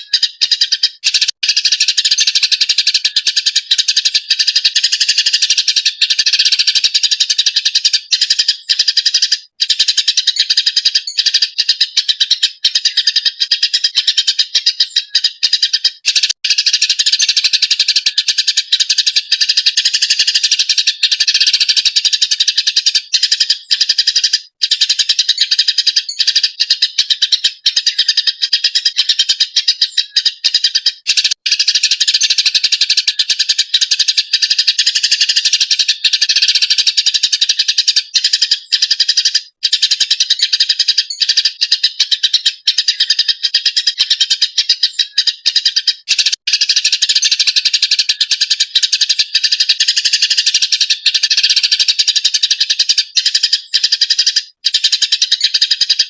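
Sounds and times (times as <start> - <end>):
sparrow chattering: 0.0 - 56.0.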